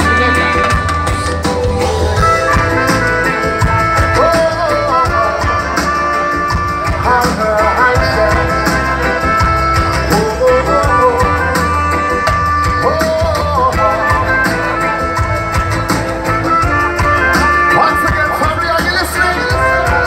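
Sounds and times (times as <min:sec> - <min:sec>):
heavy bass line: 0:00.0 - 0:20.0
reggae band playing: 0:00.0 - 0:20.0.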